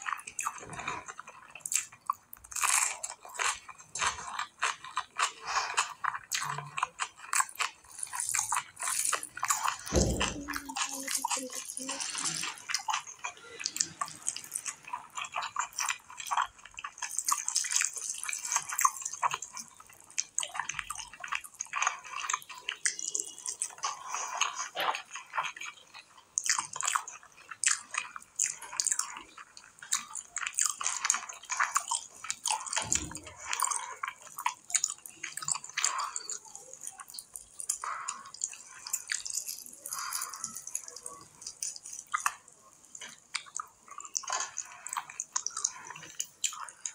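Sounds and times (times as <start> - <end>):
chewing: 0.0 - 46.9
fingers squishing wet food: 0.0 - 46.9.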